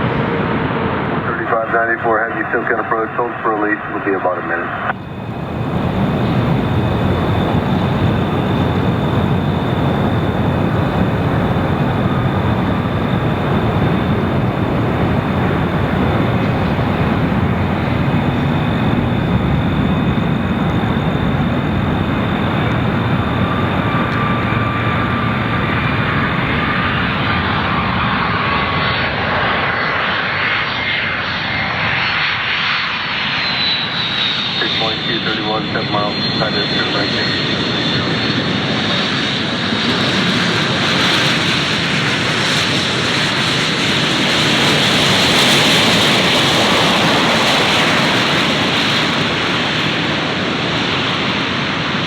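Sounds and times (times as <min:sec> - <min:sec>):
airliner engines roaring with whine: 0:00.0 - 0:52.0.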